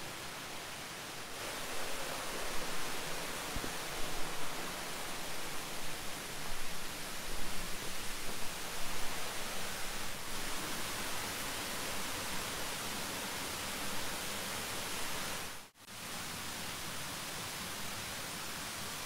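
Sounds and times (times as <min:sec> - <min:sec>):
mountain stream and waterfall rushing: 0:00.0 - 0:19.0.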